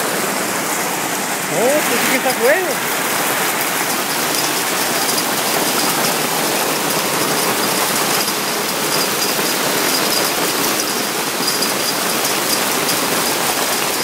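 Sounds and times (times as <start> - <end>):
hail and heavy rain pelting: 0.0 - 14.0.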